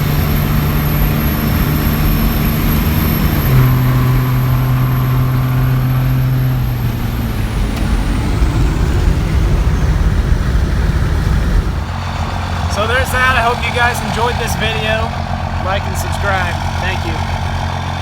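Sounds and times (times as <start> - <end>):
diesel engine pulling under load: 0.0 - 18.0
road and wind noise: 0.0 - 18.0.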